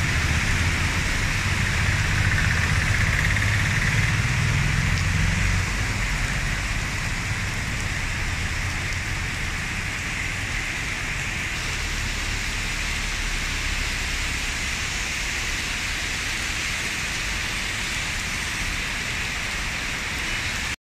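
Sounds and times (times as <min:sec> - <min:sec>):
heavy rain on flooded road: 0:00.0 - 0:20.8.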